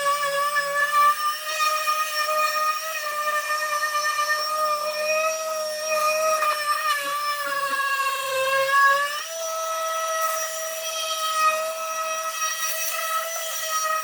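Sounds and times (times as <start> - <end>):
power tool motor whining: 0.0 - 14.0.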